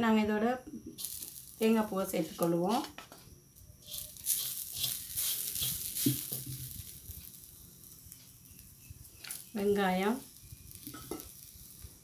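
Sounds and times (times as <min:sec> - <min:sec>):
dry sizzling scrape in pot: 0:01.0 - 0:03.0, 0:03.6 - 0:12.0.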